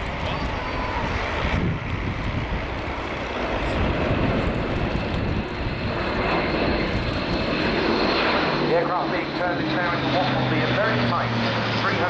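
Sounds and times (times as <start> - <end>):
turboprop aircraft engines in flight: 0.0 - 12.0.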